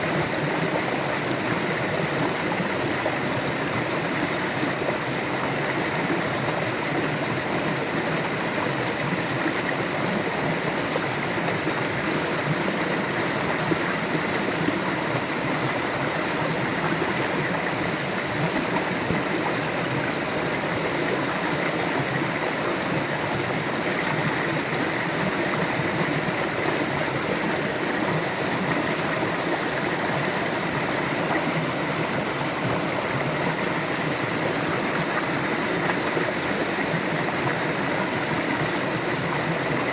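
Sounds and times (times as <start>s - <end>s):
river water rushing over stones: 0.0s - 39.9s.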